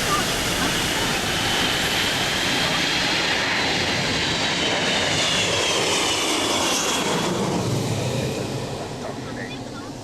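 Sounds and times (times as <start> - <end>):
high jet whine: 0.0 - 10.0
jet engines roaring: 0.0 - 10.0.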